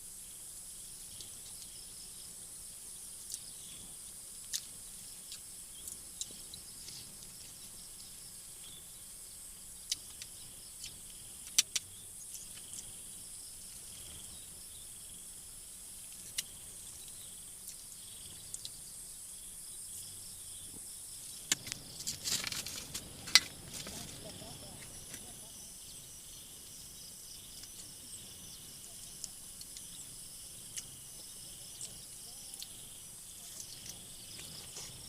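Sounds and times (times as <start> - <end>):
high insect chirring: 0.0 - 35.0.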